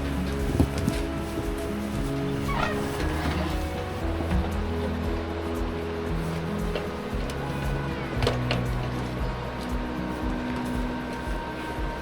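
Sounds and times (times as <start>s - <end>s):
music with held notes: 0.0s - 12.0s.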